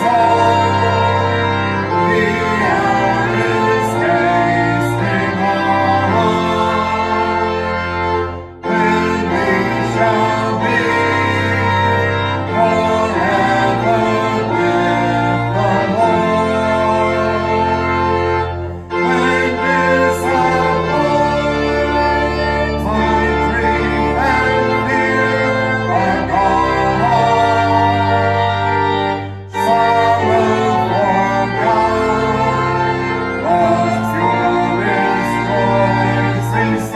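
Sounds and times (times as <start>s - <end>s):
slow worship music: 0.0s - 36.9s.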